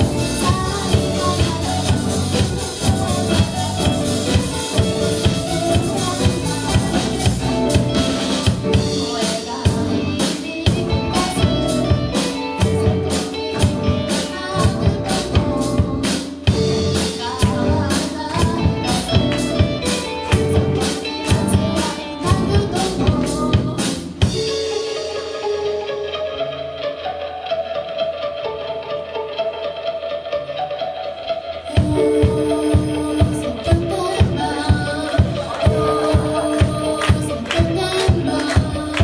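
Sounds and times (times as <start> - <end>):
drum kit beating: 0.0 - 27.1, 31.7 - 39.0
electric guitars: 0.0 - 39.0.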